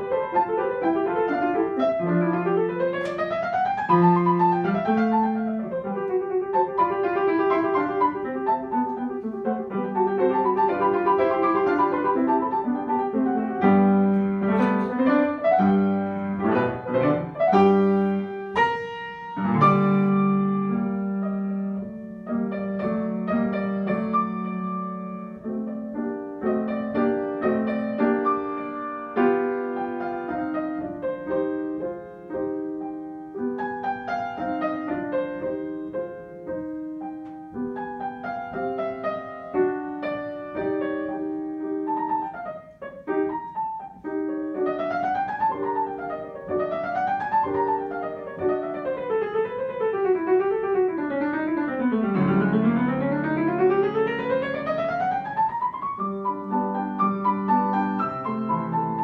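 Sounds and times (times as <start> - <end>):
piano duet: 0.0 - 59.0.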